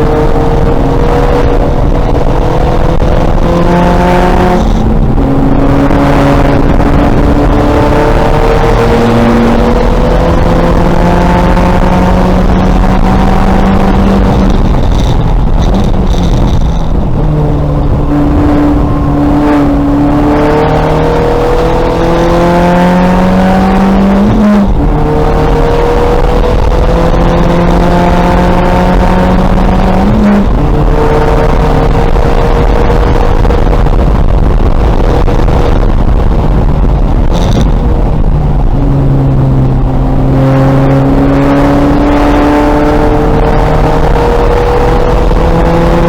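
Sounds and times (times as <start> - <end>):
race car engine revving: 0.0 - 46.0.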